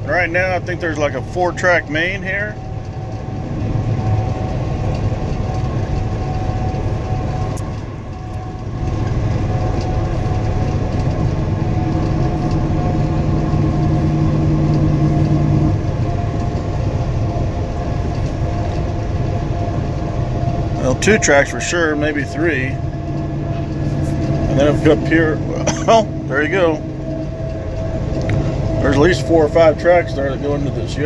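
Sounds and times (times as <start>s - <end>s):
diesel engine and road noise: 0.0s - 31.0s
steady low hum: 0.0s - 31.0s.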